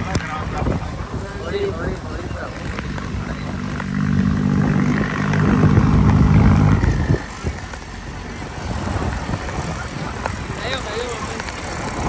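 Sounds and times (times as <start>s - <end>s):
tractor diesel engine running: 0.3s - 12.0s.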